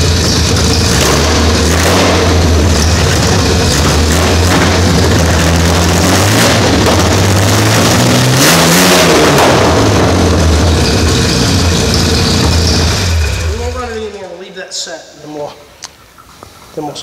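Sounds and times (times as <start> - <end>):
car engine revving: 0.0 - 14.2.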